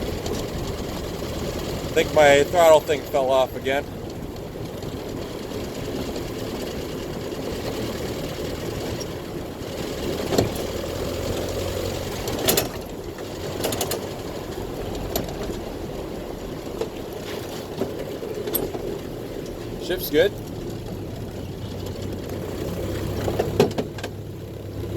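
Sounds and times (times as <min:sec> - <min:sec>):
car engine running with tappet noise: 0:00.0 - 0:24.9.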